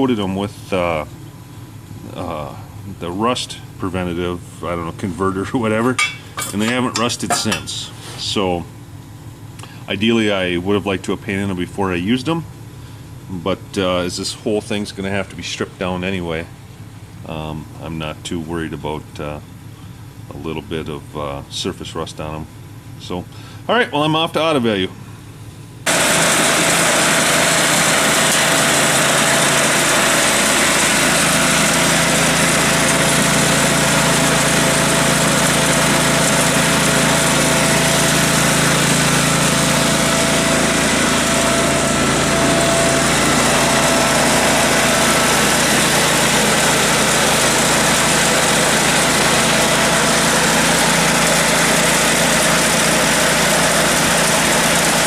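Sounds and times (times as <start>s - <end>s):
engine running steadily: 0.1s - 21.5s, 24.9s - 55.0s.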